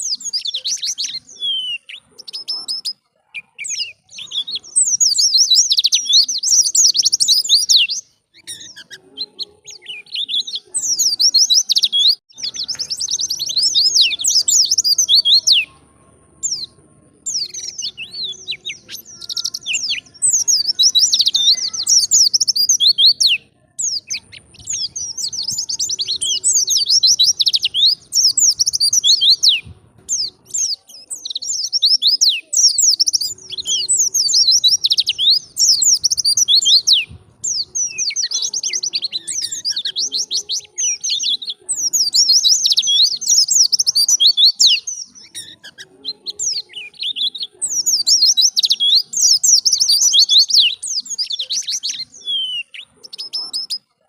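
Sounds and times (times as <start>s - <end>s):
bird twittering chirps: 0.0s - 54.0s.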